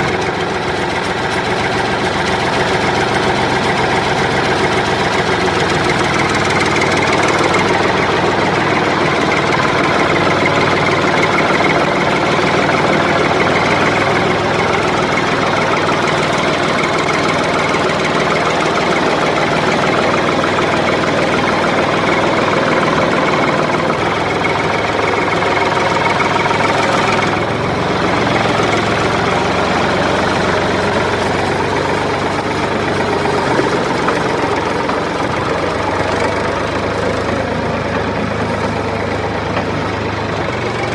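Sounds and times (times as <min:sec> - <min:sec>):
steady mechanical running noise: 0:00.0 - 0:40.9.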